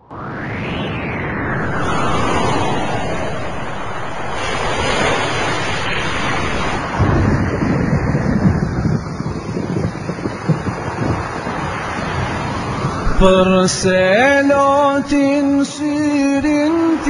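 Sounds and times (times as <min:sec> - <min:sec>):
ocean waves washing: 0:00.0 - 0:17.0
wind: 0:00.0 - 0:17.0.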